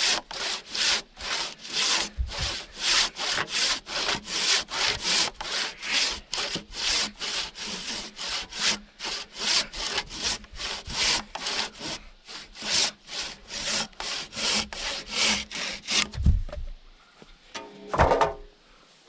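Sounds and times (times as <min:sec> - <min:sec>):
handsaw cutting wood: 0:00.0 - 0:16.2.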